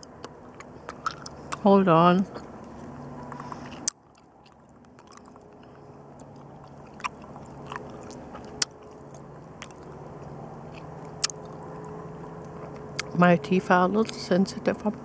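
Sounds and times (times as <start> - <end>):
person chewing candy: 0.0 - 1.7, 2.3 - 13.2.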